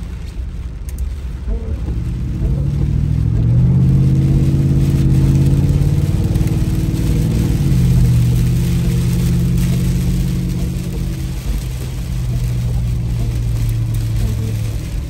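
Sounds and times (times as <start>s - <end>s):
car engine drone from inside cabin: 0.0s - 15.0s.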